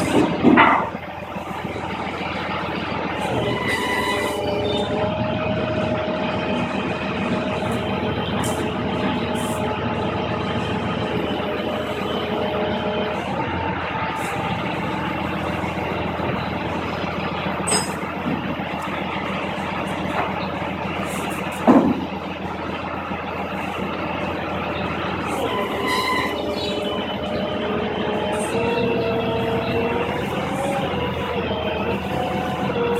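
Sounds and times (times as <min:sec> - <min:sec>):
tracked armoured vehicle running: 0:00.0 - 0:32.9
whining tones: 0:00.0 - 0:32.9.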